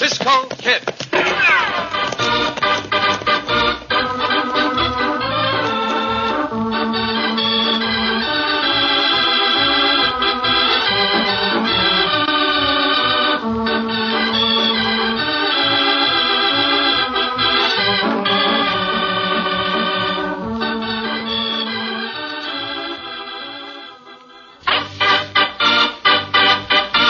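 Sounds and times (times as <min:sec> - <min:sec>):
organ music with held chords: 0:01.2 - 0:27.0.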